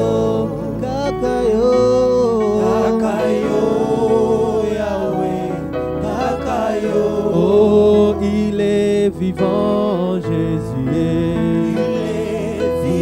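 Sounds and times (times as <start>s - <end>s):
man singing: 0.0s - 5.3s, 6.1s - 13.0s
instrumental backing music: 0.0s - 13.0s.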